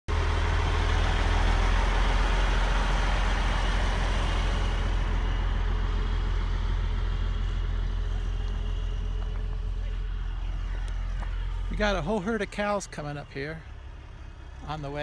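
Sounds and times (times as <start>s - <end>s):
vehicle engine running: 0.1s - 15.0s.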